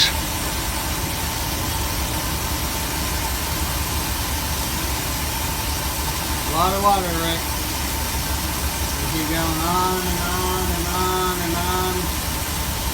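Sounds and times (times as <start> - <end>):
air and water blasting from valve: 0.0 - 12.9.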